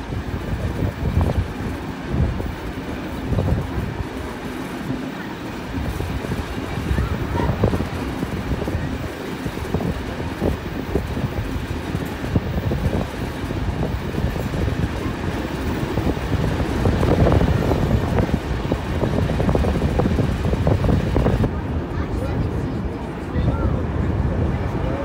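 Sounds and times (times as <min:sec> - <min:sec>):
train wheels rumbling and knocking: 0:00.0 - 0:25.0
wind buffeting microphone: 0:00.0 - 0:25.0.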